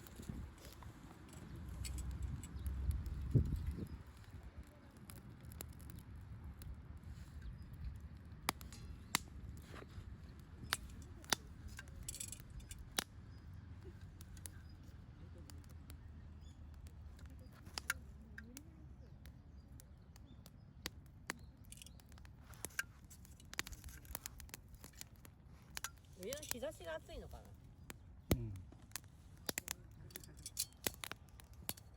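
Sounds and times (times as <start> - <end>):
campfire crackling and popping: 0.0 - 31.9
fire low rumble: 0.0 - 31.9.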